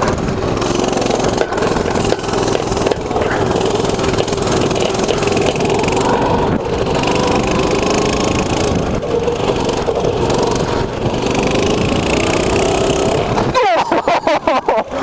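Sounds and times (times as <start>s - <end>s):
wind noise on microphone: 0.0s - 14.0s
mini bike engine running: 0.0s - 15.0s.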